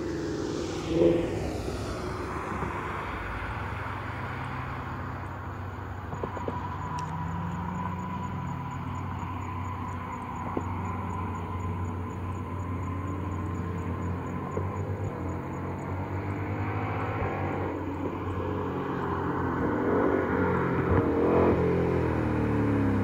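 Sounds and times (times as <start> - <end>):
car passing by: 0.0 - 23.0
distant vehicle hum: 0.0 - 23.0.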